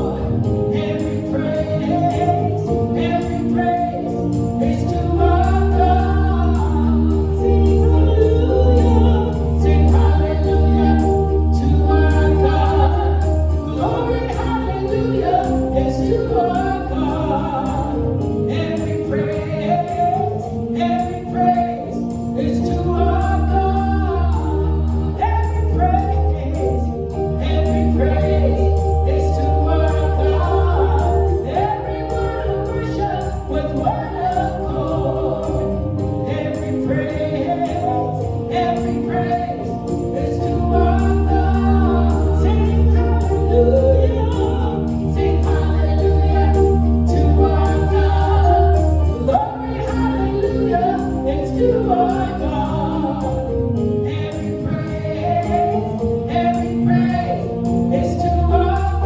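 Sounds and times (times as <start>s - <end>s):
gospel choir singing over band: 0.0s - 59.0s
tambourine jingling: 0.0s - 59.0s.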